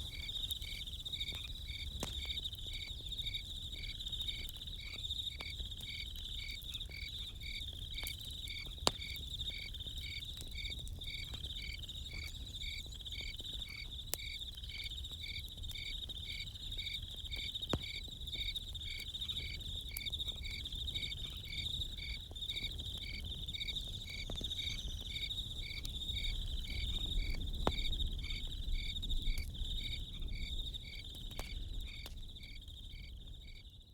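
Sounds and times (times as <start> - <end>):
campfire crackles and pops: 0.0 - 33.8
crickets chirping: 0.0 - 33.9.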